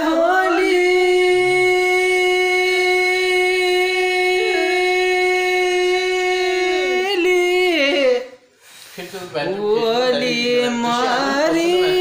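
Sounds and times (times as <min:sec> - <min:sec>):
man singing unaccompanied: 0:00.0 - 0:08.4, 0:09.2 - 0:12.0.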